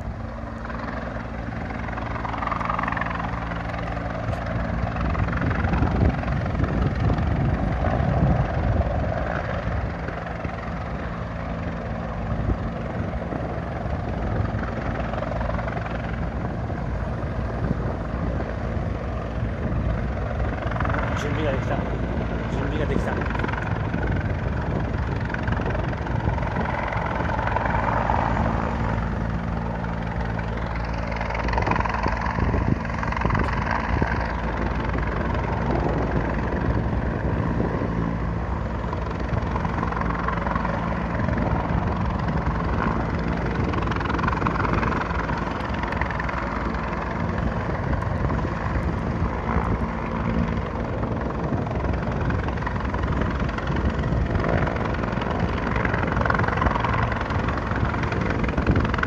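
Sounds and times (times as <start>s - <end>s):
helicopter rotor beat: 0.0s - 59.0s
helicopter turbine noise: 0.0s - 59.0s.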